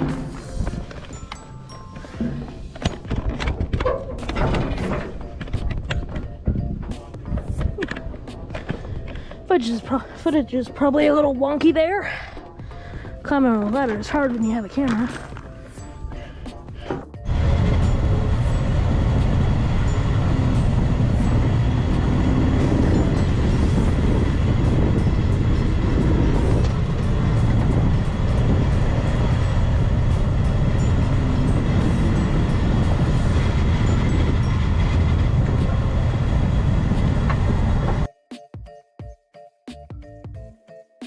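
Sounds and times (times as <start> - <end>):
heavy vehicle rumbling and rattling: 0.0 - 11.3, 12.0 - 38.1.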